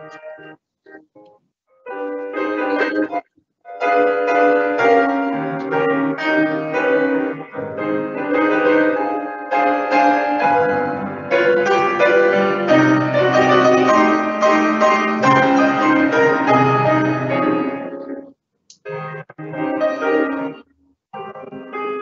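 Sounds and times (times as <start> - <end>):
solo piano chords: 0.0 - 1.3, 1.9 - 18.3, 18.9 - 20.6, 21.2 - 22.0.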